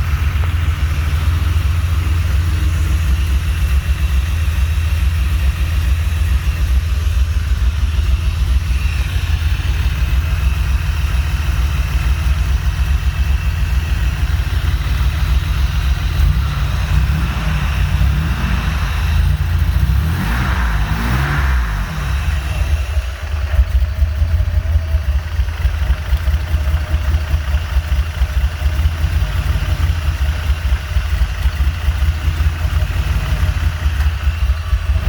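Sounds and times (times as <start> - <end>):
car engine idling roughly: 0.0 - 35.0.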